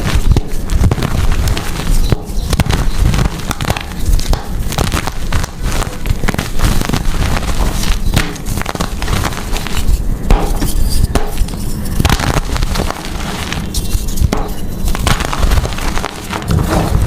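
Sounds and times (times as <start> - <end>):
chalk crunching and crackling: 0.0 - 17.0.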